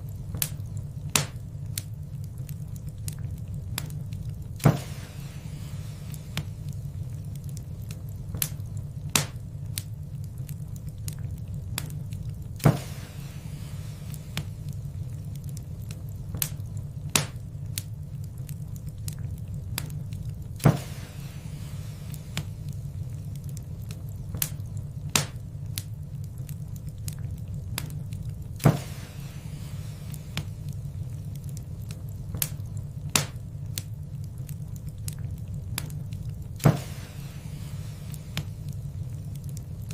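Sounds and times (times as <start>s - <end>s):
loud fire pops: 0.0s - 39.9s
wood fire crackling: 0.0s - 39.9s.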